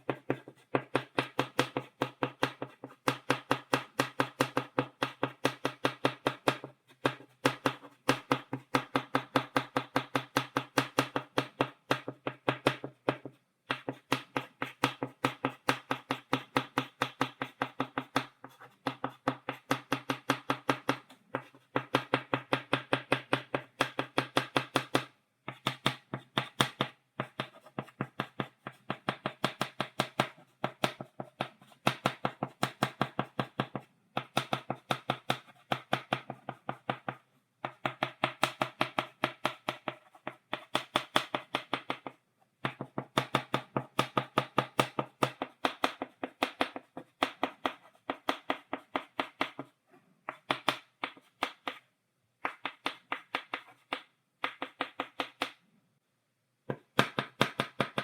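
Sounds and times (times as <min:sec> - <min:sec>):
chalk tapping on blackboard: 0:00.0 - 0:55.6.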